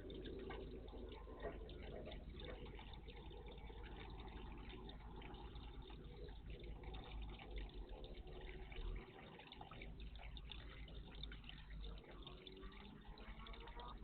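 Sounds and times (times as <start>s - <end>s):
water splashing and trickling: 0.0s - 14.0s.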